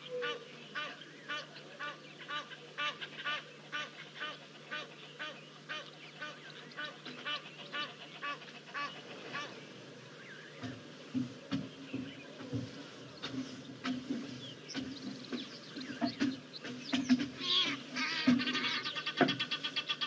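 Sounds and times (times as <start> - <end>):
bird calling repeatedly: 0.0 - 9.6, 13.2 - 20.0
faint low hum: 0.0 - 20.0.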